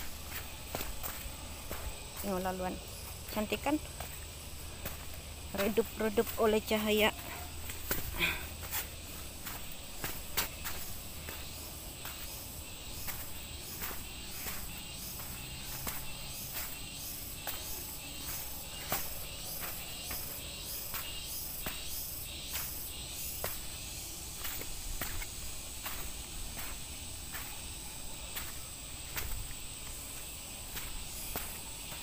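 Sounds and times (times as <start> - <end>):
footsteps on dirt trail: 0.0 - 32.0
insects buzzing: 0.0 - 32.0.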